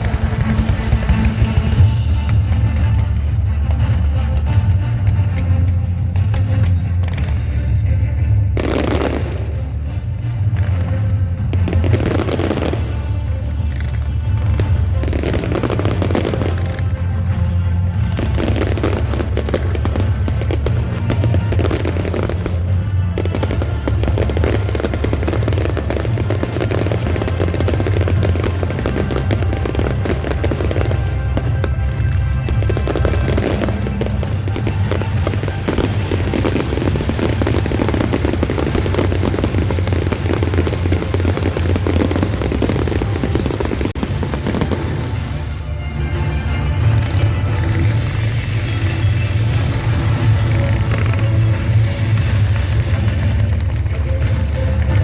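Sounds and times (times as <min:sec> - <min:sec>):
background music: 0:00.0 - 0:55.0
fireworks bursting and crackling: 0:00.0 - 0:55.0.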